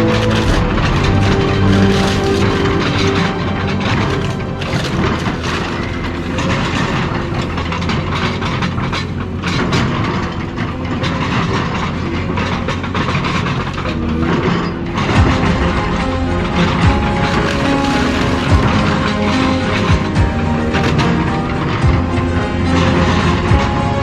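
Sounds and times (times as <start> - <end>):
metal clanking and scraping: 0.0 - 23.4
heavy machine engine hum: 0.0 - 24.0.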